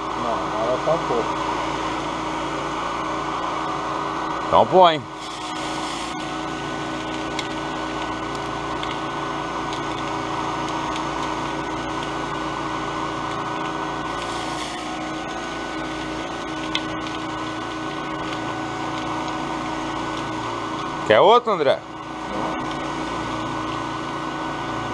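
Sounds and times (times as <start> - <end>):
cotton candy machine whirring: 0.0 - 24.9.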